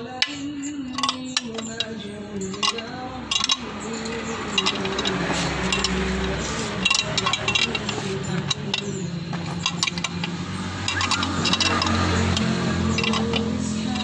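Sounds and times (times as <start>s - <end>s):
metal tools clinking and knocking: 0.0s - 14.0s.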